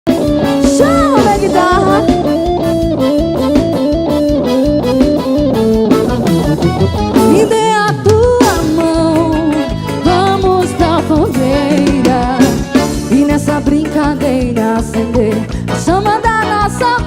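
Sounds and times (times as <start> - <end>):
steady drum beat: 0.1 - 15.5
bass: 0.1 - 17.0
lead melody with sliding notes: 0.1 - 17.0.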